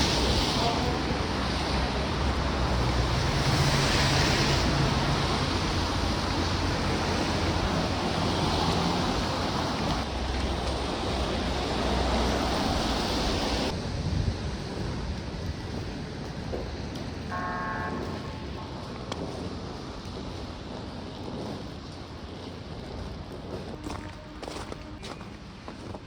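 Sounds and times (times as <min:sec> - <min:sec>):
traffic on wet street: 0:00.0 - 0:26.0.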